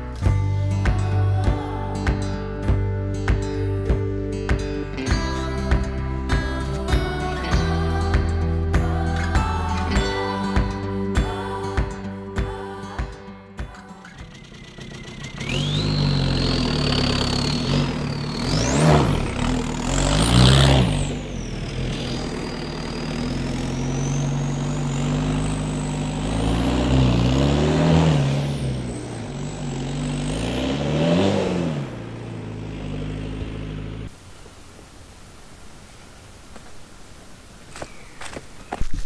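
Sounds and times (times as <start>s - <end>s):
diesel engine revving uphill: 0.0s - 34.3s.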